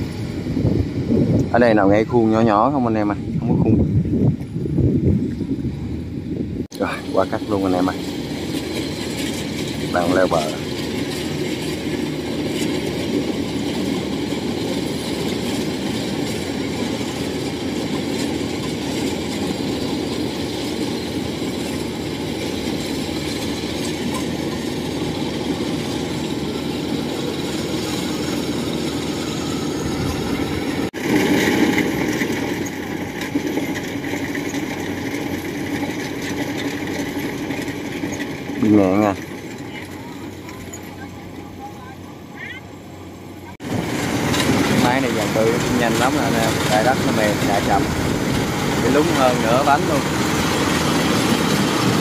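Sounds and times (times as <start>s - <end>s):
diesel engine running under load: 0.0s - 52.0s
clatter of tracks and cutter: 6.7s - 42.1s, 43.5s - 52.0s.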